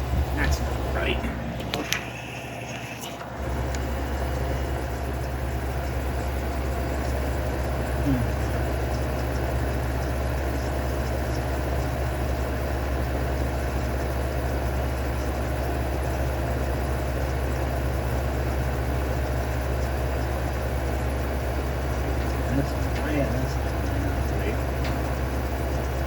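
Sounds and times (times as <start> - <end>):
fan rushing: 0.0 - 15.1, 18.9 - 26.0
compressor hum: 0.0 - 26.0
thin steady whine: 0.0 - 26.0.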